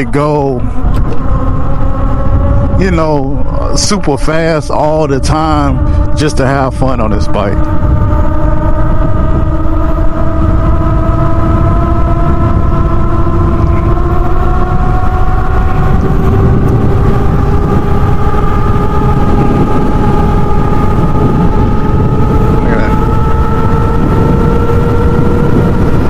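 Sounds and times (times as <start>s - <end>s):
electric motor whine rising: 0.0s - 26.0s
wind buffeting microphone: 0.0s - 26.0s.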